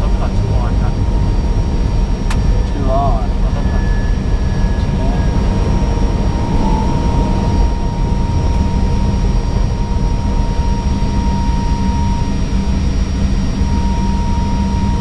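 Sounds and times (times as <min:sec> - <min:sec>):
engine and airflow rumble: 0:00.0 - 0:15.0
faint steady whine: 0:00.0 - 0:15.0.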